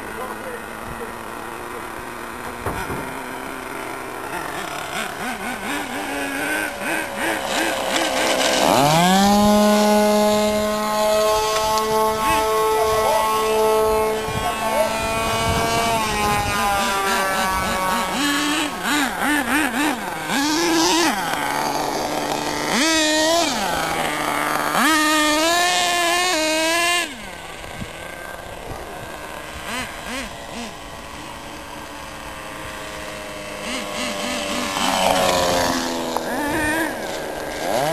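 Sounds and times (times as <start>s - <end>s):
model airplane engine revving: 0.0s - 37.9s.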